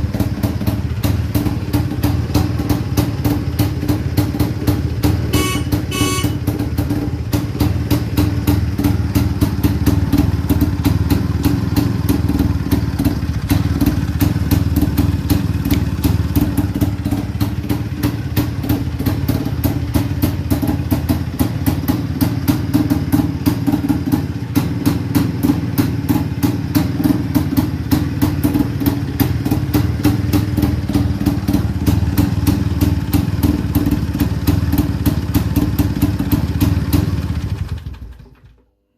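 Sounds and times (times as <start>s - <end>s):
motorcycle engine idling: 0.0s - 38.6s.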